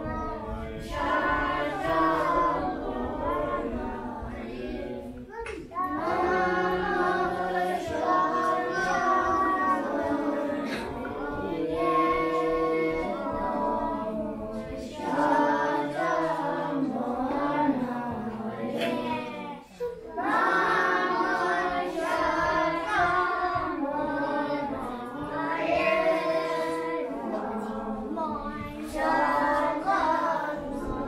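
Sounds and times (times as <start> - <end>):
children singing together: 0.0 - 31.0.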